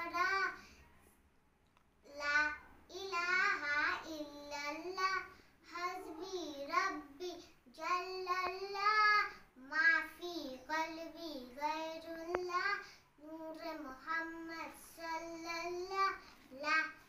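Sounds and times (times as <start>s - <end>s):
girl singing unaccompanied: 0.0s - 0.8s, 2.0s - 17.0s.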